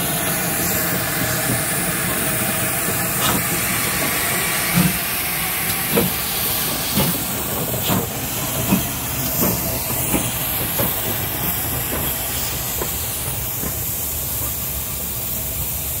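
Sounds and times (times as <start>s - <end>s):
steam locomotive beat: 0.0s - 16.0s
steam locomotive hissing: 0.0s - 16.0s.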